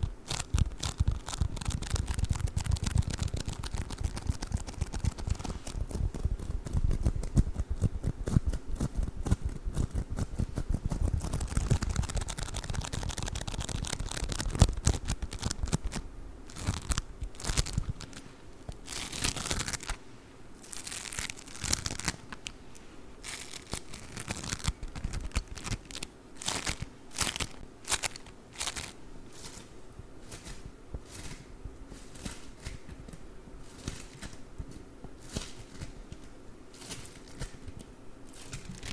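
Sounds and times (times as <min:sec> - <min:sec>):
beaded foam squished and crackling: 0:00.0 - 0:20.0, 0:20.6 - 0:32.9, 0:36.7 - 0:38.9.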